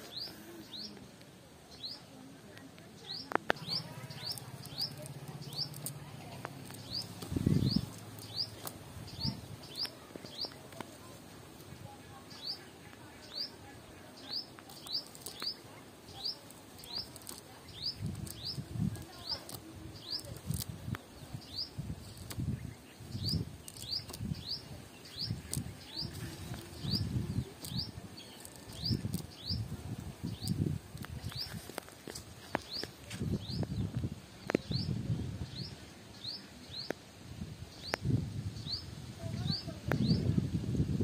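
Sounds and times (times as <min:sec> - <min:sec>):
small bird chirping: 0:00.0 - 0:01.1, 0:02.9 - 0:37.0.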